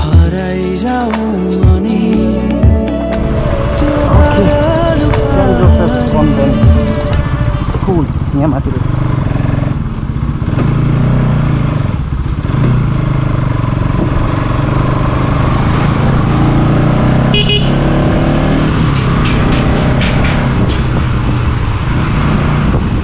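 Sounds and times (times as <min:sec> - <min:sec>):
motorcycle engine revving: 0:03.2 - 0:23.0.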